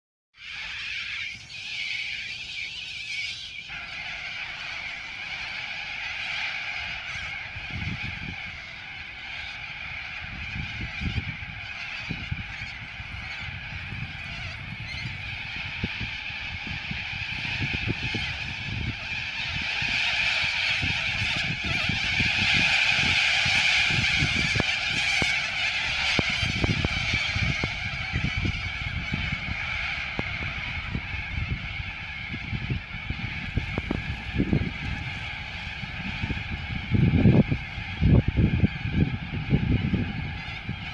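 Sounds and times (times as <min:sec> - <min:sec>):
cockatoos screeching: 0:00.4 - 0:40.9.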